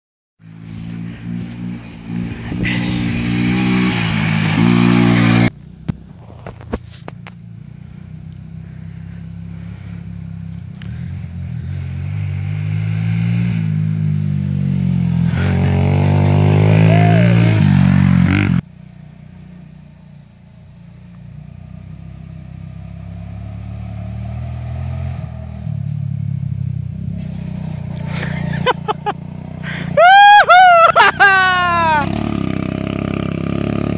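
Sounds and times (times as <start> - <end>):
dirt bike engines revving: 0.4 - 20.0, 20.7 - 33.9.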